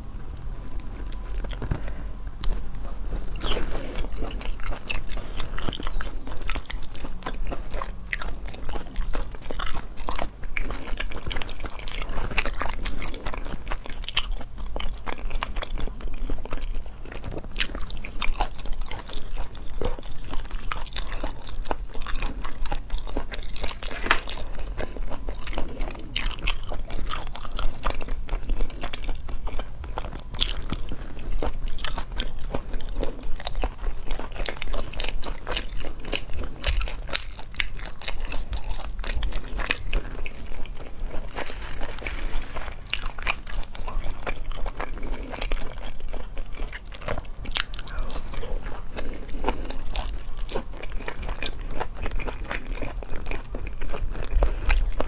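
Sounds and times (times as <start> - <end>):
person chewing with crunches: 0.0 - 55.0
steady low hum: 0.0 - 55.0.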